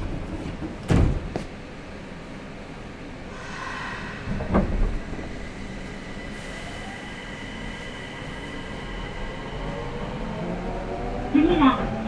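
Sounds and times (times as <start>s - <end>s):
train inverter whine: 0.0s - 12.0s
train running rumble: 0.0s - 12.0s.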